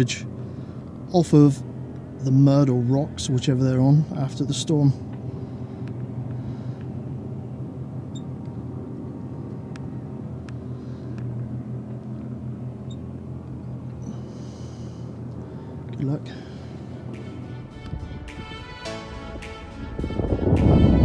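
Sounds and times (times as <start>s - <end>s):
outboard motors droning: 0.0s - 21.0s.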